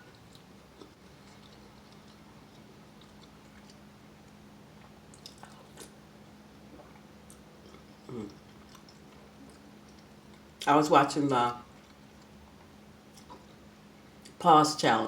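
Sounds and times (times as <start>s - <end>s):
quiet chewing and mouth sounds: 0.0s - 10.7s, 11.6s - 14.4s
faint steady hum: 0.0s - 15.0s.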